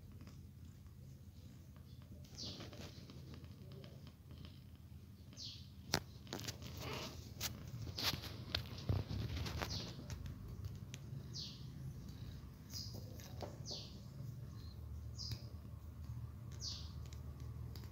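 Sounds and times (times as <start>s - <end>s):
small bird chirping: 1.1s - 17.9s.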